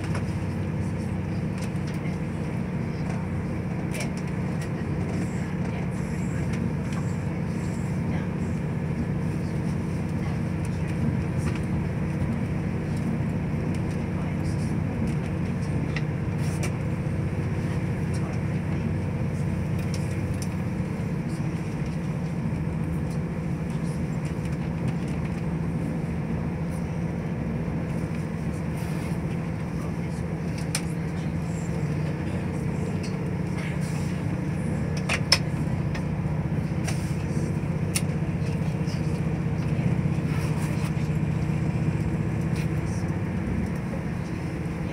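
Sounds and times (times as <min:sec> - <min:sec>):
train engine hum and track rumble: 0:00.0 - 0:44.9.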